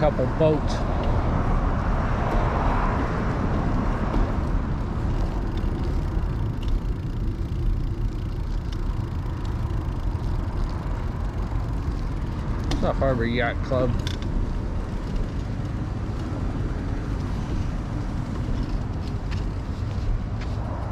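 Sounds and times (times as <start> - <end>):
road noise: 0.0 - 20.9
wind buffeting microphone: 0.0 - 20.9.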